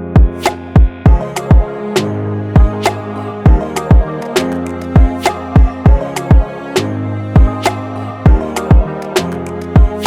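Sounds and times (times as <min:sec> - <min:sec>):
electronic music with kick drum: 0:00.0 - 0:10.0.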